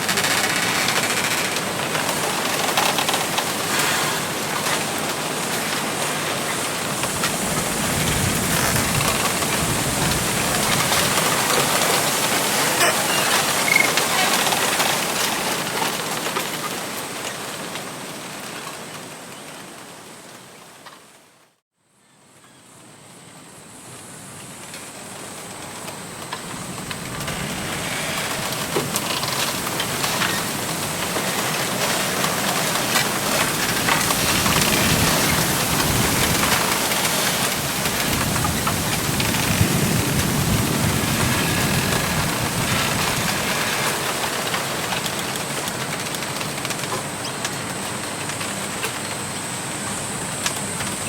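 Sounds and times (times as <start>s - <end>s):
wind rustling through bamboo: 0.0s - 51.0s.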